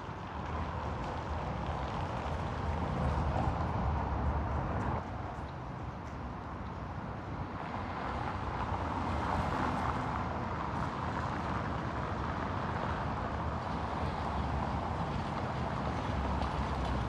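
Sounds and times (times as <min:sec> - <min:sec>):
cars driving over cobblestones: 0:00.0 - 0:17.0
low traffic rumble: 0:00.0 - 0:17.0.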